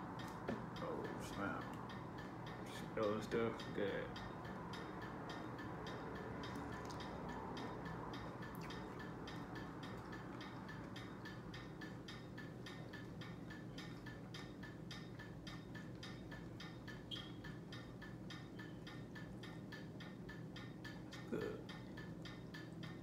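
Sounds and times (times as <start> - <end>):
low steady hum: 0.0 - 23.0
rapid mechanical ticking: 0.0 - 23.0.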